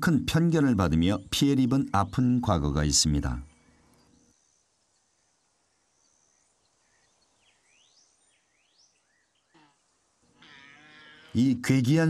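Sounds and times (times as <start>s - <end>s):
faint bird chirps: 1.0s - 11.4s.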